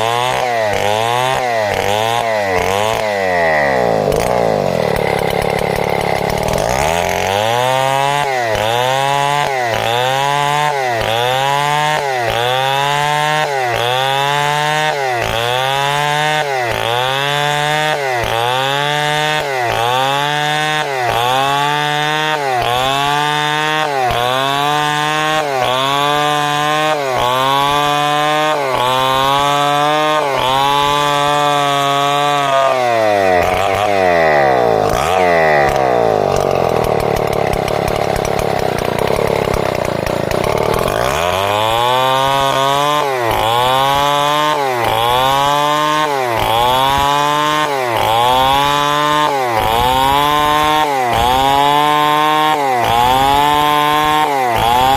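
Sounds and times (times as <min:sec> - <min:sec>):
chainsaw cutting timber: 0:00.0 - 0:54.9.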